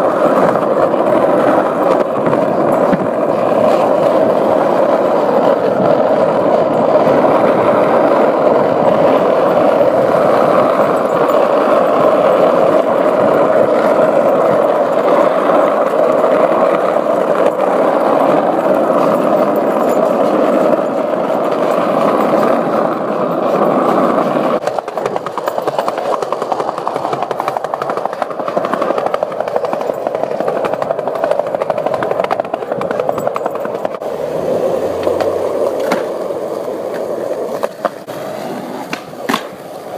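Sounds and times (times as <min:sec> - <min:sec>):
skateboard wheels rolling on asphalt: 0:00.0 - 0:39.9.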